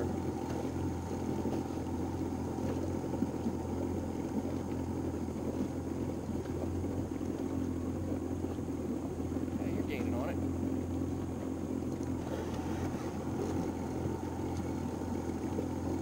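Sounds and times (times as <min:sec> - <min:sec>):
outboard motor idling: 0:00.0 - 0:16.0.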